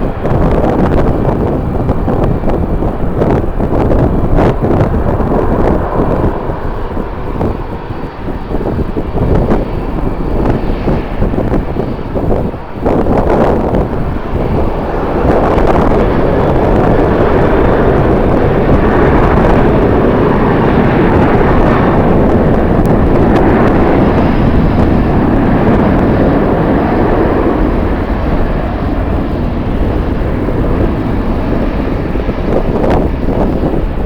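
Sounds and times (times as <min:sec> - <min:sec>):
jet airliner engines: 0:00.0 - 0:34.0
wind noise on microphone: 0:00.0 - 0:34.0.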